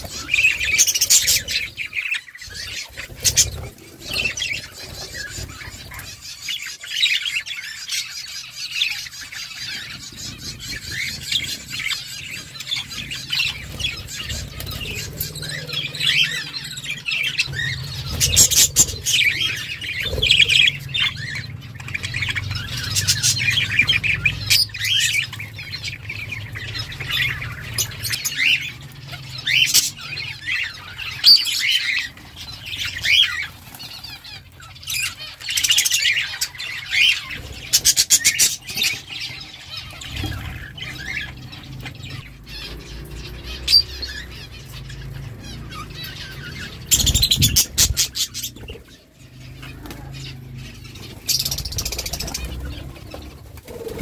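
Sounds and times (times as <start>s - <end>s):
budgerigars chattering and warbling: 0.0s - 54.0s.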